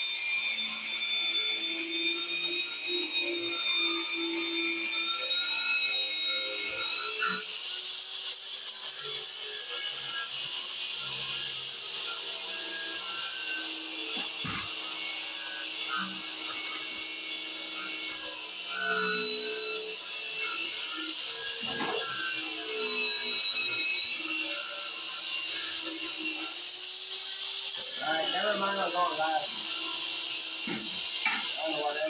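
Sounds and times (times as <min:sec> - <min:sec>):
wire brush grinder on steel pipe: 0:00.0 - 0:32.0.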